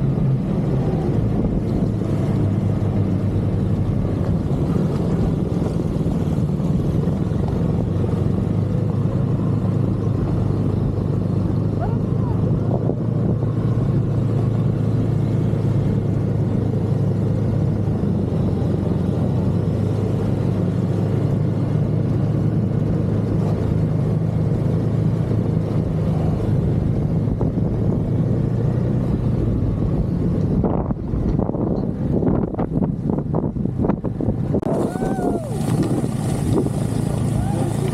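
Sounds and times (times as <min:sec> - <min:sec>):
snowmobile engine running: 0:00.0 - 0:37.9.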